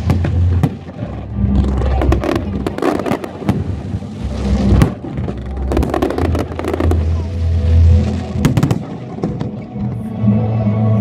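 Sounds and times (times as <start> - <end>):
fireworks sharp cracks: 0.0 - 9.7
fireworks deep rolling booms: 0.0 - 10.0.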